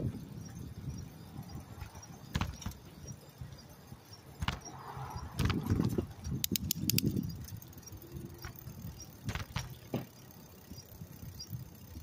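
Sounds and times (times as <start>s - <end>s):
bicycle rattling and clinking: 0.0s - 12.0s
low rumble of wind and tyres: 0.0s - 12.0s.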